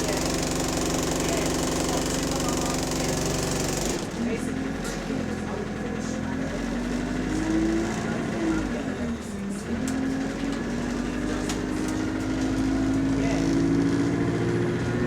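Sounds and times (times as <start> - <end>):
bus diesel engine: 0.0 - 15.0.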